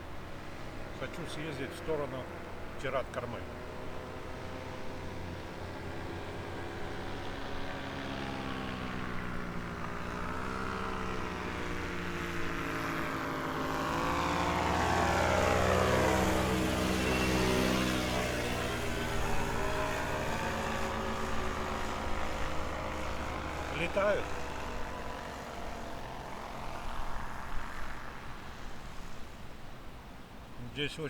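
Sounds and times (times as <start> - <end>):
propeller aircraft flying past: 0.0 - 31.0.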